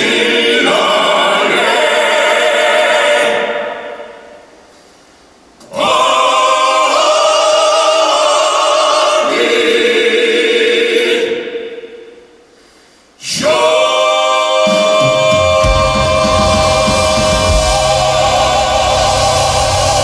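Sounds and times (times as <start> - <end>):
male vocal quartet singing: 0.0 - 4.1, 5.6 - 11.8, 13.2 - 20.0.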